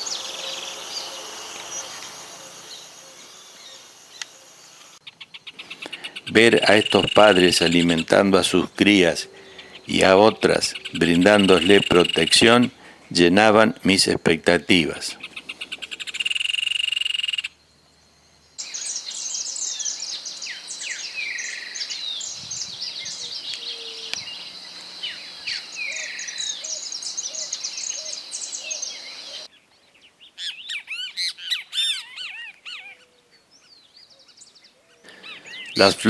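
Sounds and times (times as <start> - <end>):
birds chirping and calling: 0.0 - 17.6, 18.6 - 36.0.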